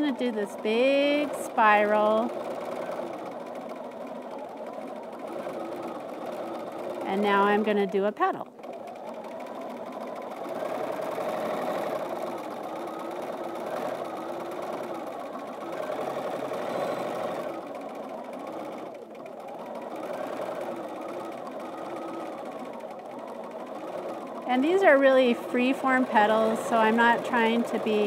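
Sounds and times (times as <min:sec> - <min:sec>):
sewing machine stitching: 0:00.0 - 0:28.0.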